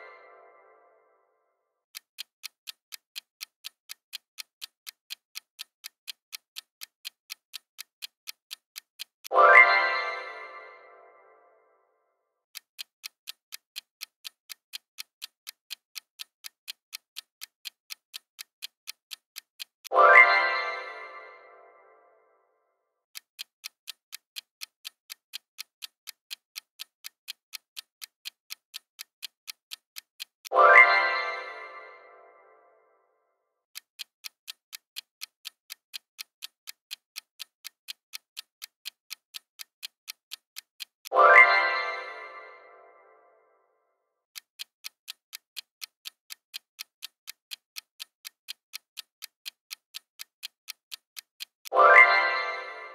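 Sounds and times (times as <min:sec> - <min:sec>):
clock ticking: 0:01.8 - 0:11.4, 0:12.4 - 0:22.0, 0:23.0 - 0:32.6, 0:33.6 - 0:43.2, 0:44.2 - 0:52.9.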